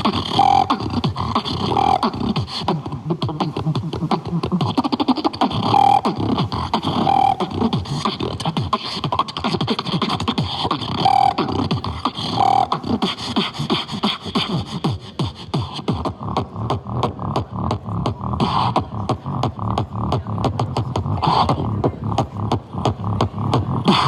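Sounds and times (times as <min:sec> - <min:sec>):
beatboxing: 0:00.0 - 0:24.0.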